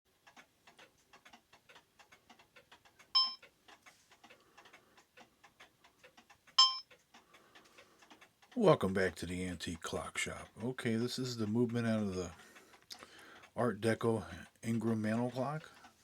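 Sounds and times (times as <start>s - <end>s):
mechanical clock ticking: 0.1s - 16.0s.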